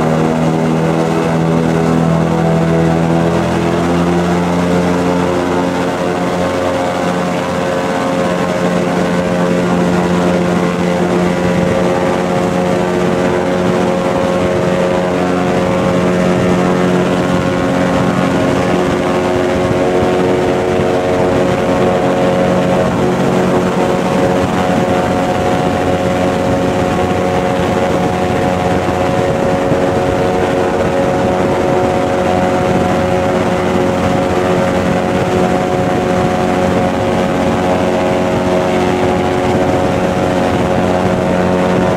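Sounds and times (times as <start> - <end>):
airboat engine and propeller: 0.0 - 41.9.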